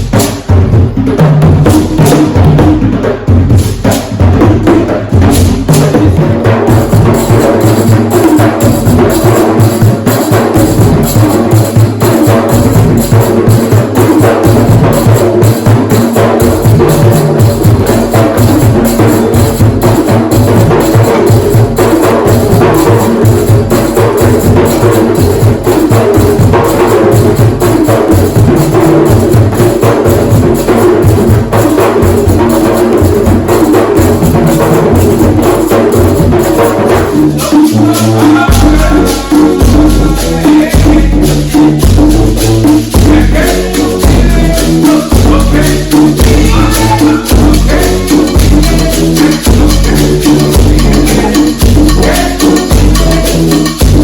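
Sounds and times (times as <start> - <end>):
hand drums playing fast rhythm: 0.0 - 54.0.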